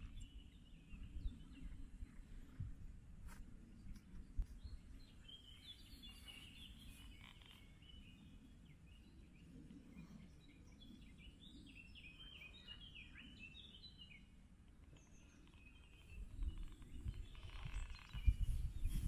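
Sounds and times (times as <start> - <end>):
birds chirping: 0.0 - 2.7, 3.6 - 19.0.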